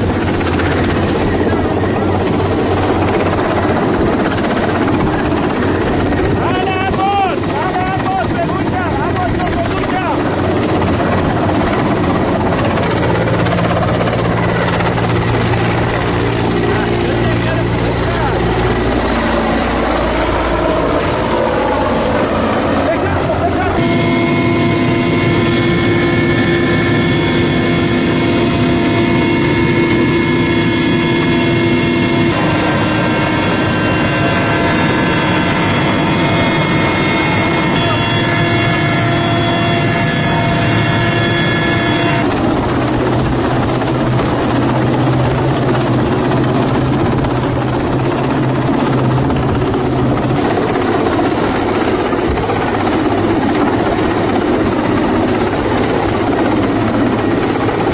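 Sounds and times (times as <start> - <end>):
helicopter turbine and rotor drone: 0.0 - 57.9.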